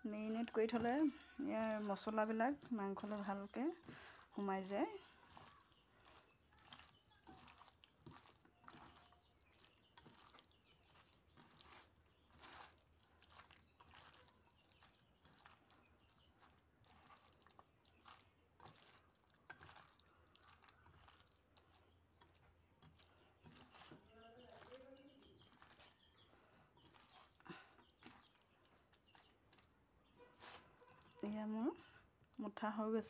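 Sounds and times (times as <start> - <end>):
wet squishing of kneading meat: 0.0 - 32.6.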